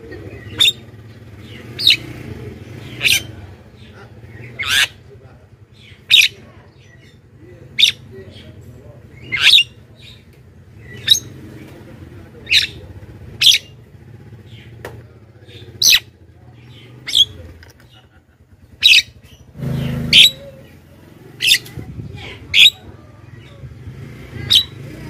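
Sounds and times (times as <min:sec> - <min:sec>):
bird giving sharp calls: 0:00.3 - 0:14.8, 0:15.4 - 0:25.0.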